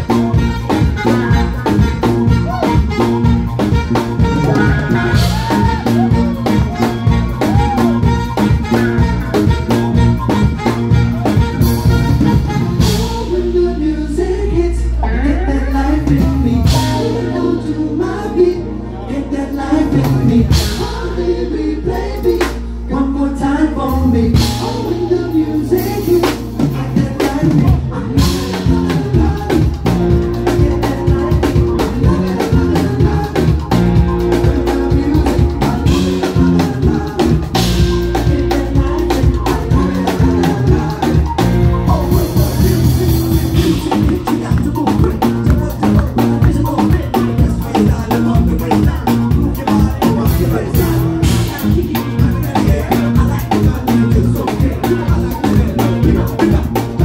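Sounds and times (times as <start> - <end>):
drum kit beat: 0.0 - 14.2, 15.0 - 18.2, 19.6 - 22.9, 23.9 - 57.0
live band playing loudly: 0.0 - 57.0
man singing: 0.0 - 57.0.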